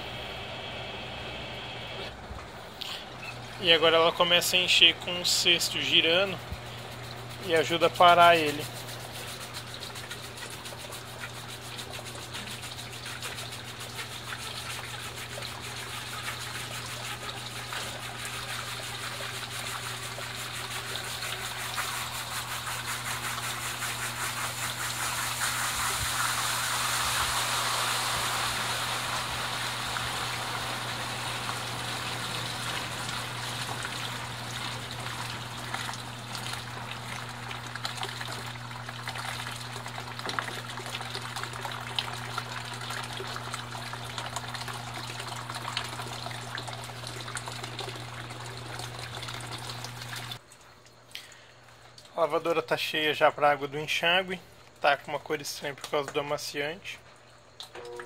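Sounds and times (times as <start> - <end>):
washing machine low hum: 0.0 - 50.4
water gushing into tub: 2.2 - 50.4.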